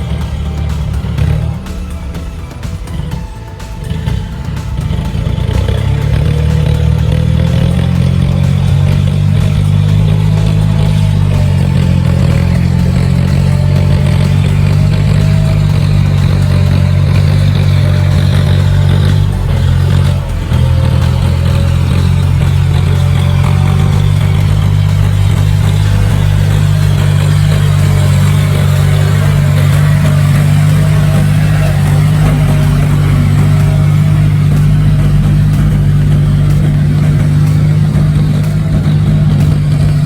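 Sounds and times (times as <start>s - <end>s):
tractor engine droning: 0.0s - 40.0s.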